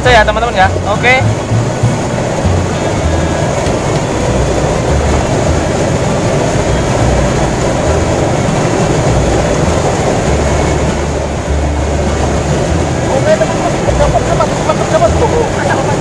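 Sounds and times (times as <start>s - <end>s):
low rumble: 0.0s - 16.0s
water rushing along a canal: 0.0s - 16.0s.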